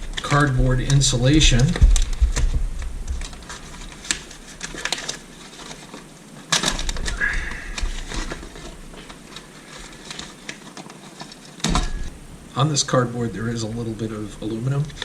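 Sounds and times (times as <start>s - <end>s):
foil crinkling: 0.0s - 12.0s.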